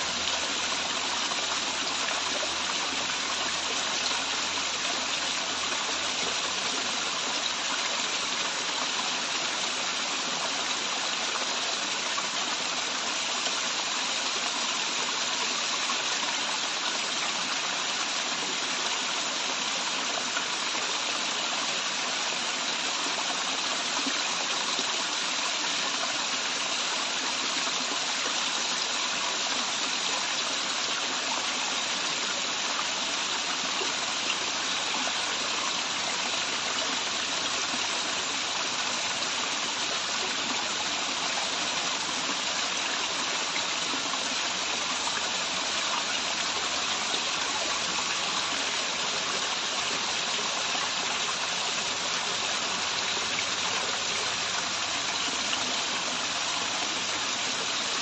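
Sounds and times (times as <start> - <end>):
waterfall rushing water: 0.0 - 58.0.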